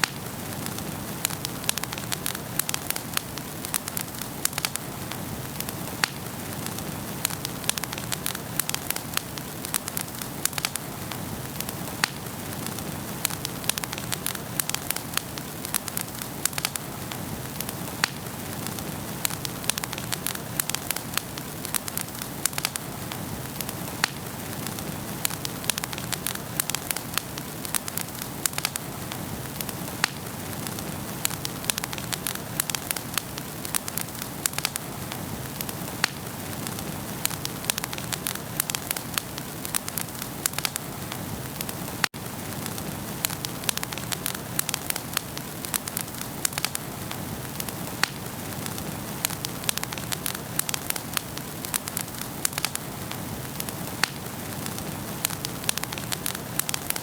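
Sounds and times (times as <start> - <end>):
hiss of flames: 0.0 - 57.0
sharp pops of burning wood: 0.0 - 57.0
wood fire crackling: 0.0 - 57.0.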